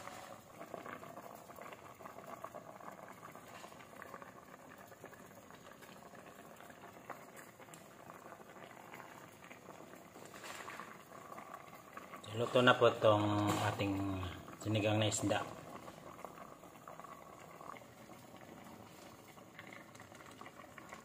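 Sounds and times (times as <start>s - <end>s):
soup bubbling in a pot: 0.0s - 21.0s.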